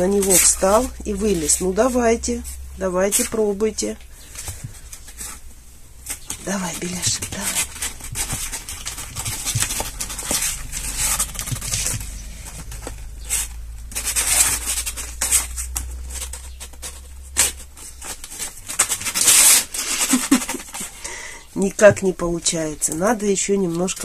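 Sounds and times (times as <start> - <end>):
claws scratching cardboard: 0.0 - 3.4, 4.1 - 21.0.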